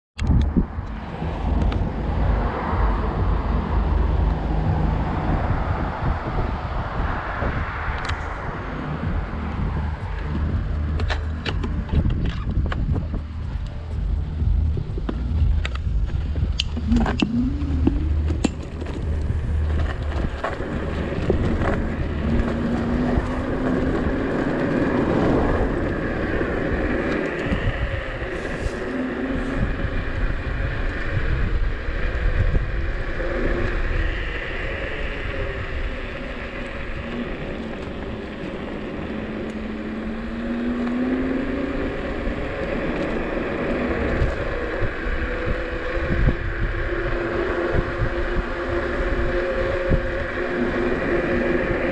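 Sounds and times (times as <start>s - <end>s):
electric scooter motor whine: 0.2s - 51.9s
wind and road rumble: 0.2s - 51.9s.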